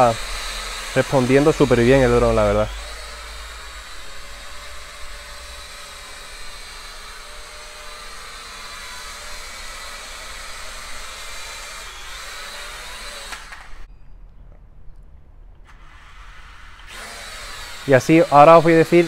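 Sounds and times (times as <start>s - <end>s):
drone propellers whirring: 0.0s - 13.9s, 15.6s - 19.0s.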